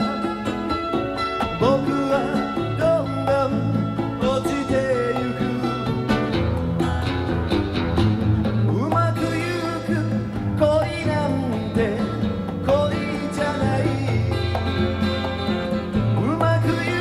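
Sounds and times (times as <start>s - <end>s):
acoustic guitar chords: 0.0s - 17.0s
sliding guitar melody: 0.0s - 17.0s.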